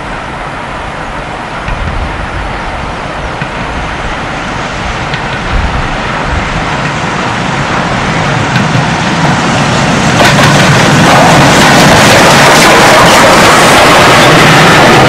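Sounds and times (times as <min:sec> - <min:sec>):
steam locomotive passing: 0:00.0 - 0:15.0.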